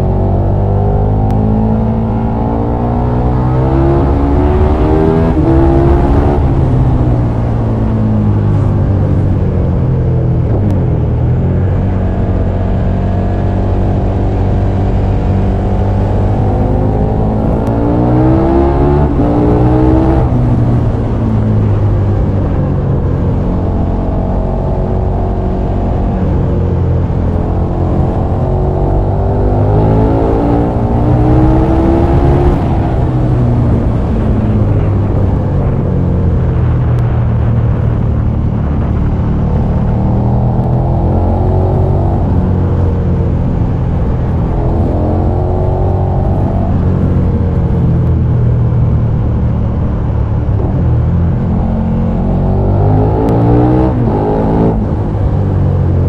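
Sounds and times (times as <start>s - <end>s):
constant low rumble: 0.0s - 56.0s
motorcycle engine accelerating: 0.0s - 56.0s.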